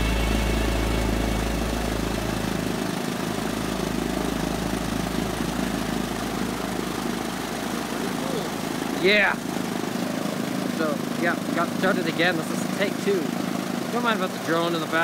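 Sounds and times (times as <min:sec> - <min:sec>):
aircraft engine idling: 0:00.0 - 0:15.0.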